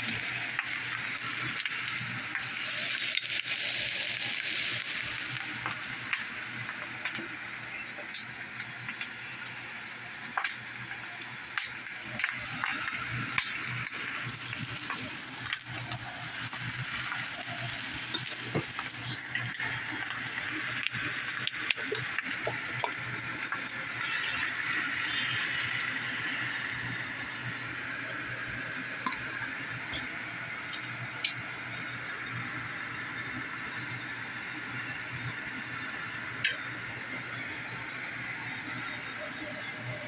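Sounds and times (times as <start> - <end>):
food sizzling in a frying pan: 0.0 - 39.6.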